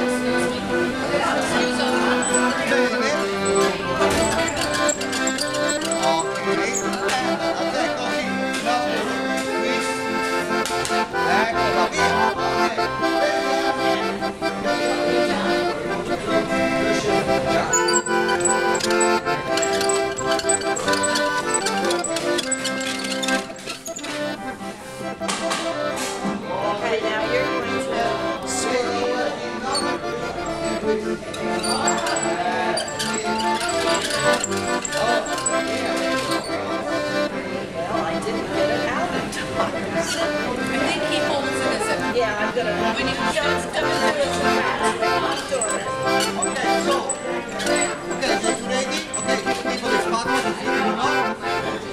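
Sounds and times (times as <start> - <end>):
instrumental folk tune: 0.0 - 51.9.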